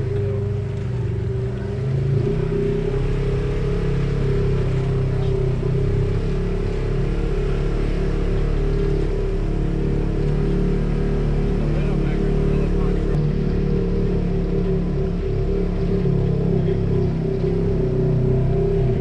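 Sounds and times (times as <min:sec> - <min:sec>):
engine droning at low revs: 0:00.0 - 0:19.0.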